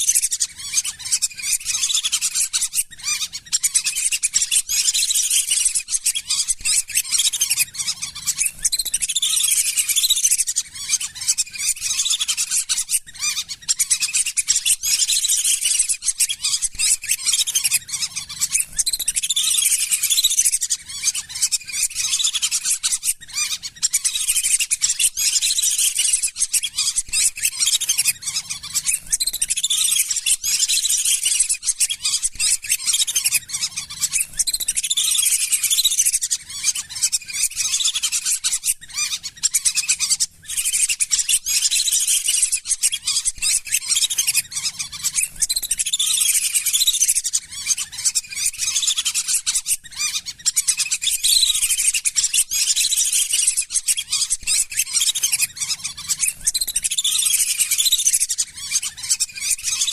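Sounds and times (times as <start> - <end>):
ducks whistling calls: 0.0 - 59.9.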